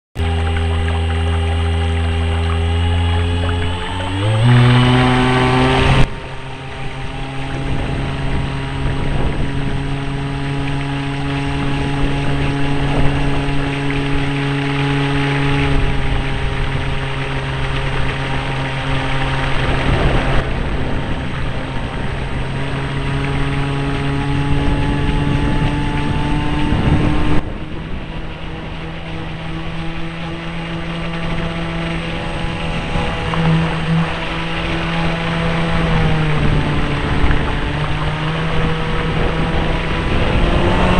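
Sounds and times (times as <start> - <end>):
electric motor whine: 0.2 - 40.9
water rushing along hull: 0.2 - 40.9.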